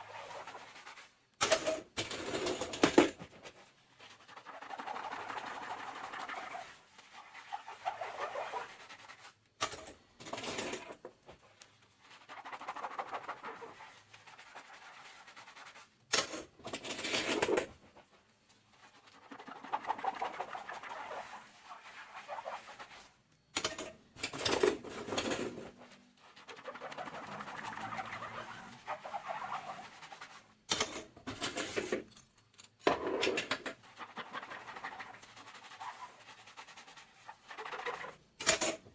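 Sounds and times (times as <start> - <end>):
sponge scrubbing dishes: 0.0 - 1.2, 1.8 - 32.1, 33.0 - 38.9.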